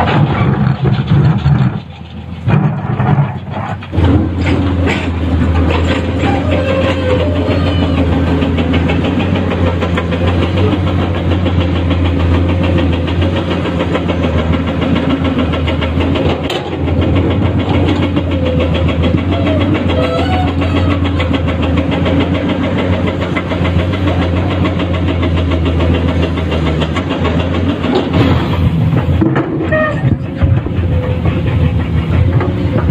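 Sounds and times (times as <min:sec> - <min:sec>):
excavator diesel engine: 0:00.0 - 0:32.9.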